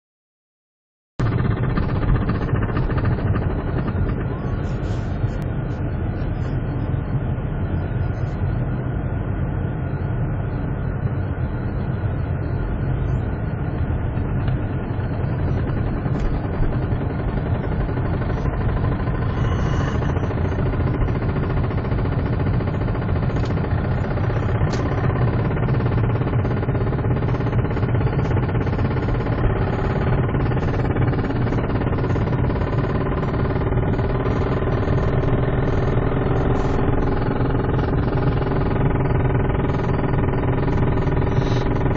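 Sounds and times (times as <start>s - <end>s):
car engine rumble inside cabin: 1.2s - 41.9s.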